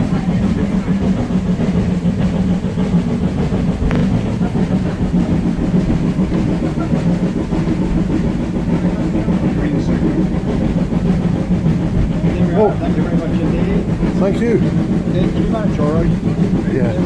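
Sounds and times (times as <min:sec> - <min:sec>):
train engine drone: 0:00.0 - 0:17.0
wheels rumbling on rails: 0:00.0 - 0:17.0.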